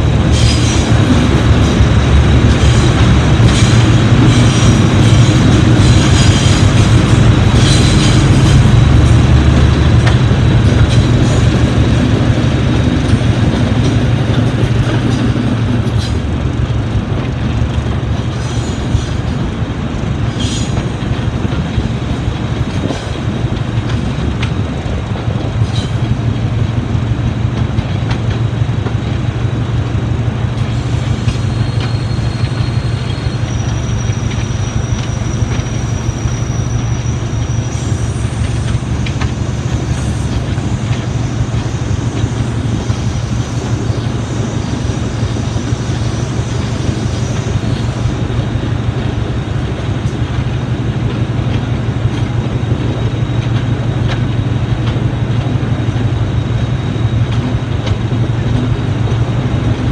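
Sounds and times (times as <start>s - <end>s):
diesel locomotive engine: 0.0s - 59.9s
wheel and rail noise: 0.0s - 59.9s.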